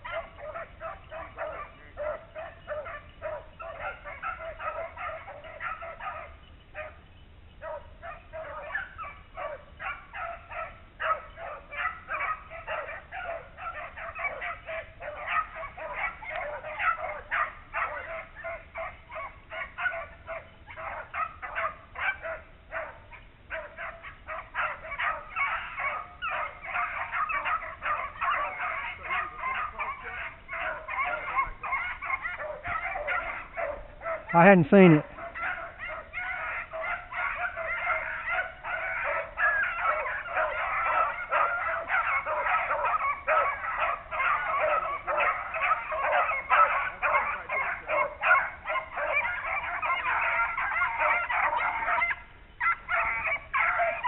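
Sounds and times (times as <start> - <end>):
dogs baying and barking: 0.0 - 54.0.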